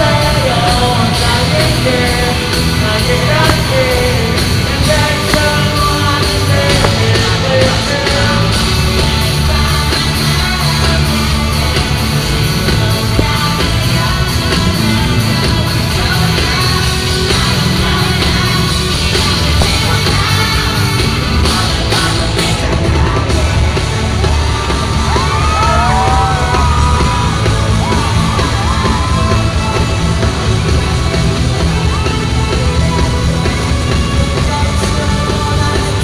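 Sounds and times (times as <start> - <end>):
fans yelling: 0.0 - 36.0
loud live concert music: 0.0 - 36.0
person singing: 0.0 - 36.0.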